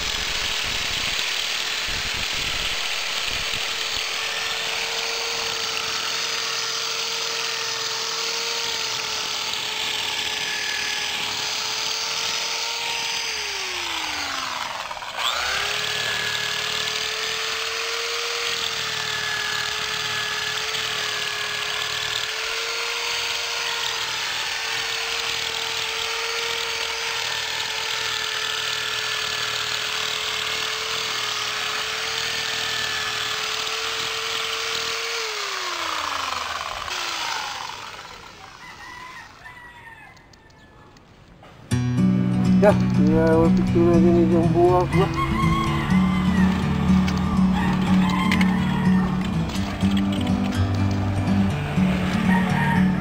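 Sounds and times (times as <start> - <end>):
electric drill motor whining: 0.0 - 39.5, 42.6 - 53.0.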